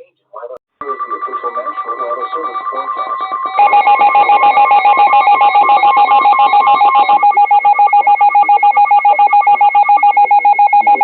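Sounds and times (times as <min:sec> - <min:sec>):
loud two-tone alarm pulsing: 0:00.8 - 0:11.0.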